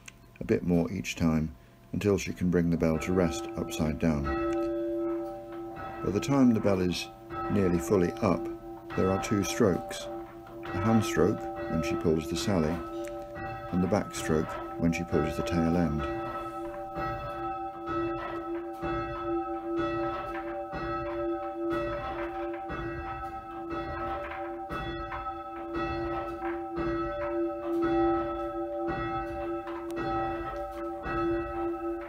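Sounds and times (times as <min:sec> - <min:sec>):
steady sustained hum: 0:00.3 - 0:32.0
church bell ringing: 0:00.6 - 0:32.0.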